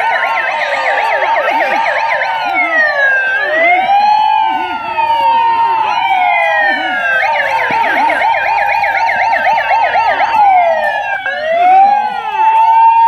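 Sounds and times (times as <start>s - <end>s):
electronic siren: 0.0s - 13.0s.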